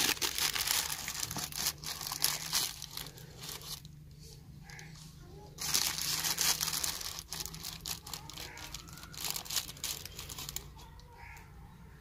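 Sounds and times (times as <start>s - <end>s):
dry rustling and crinkling: 0.0s - 11.5s.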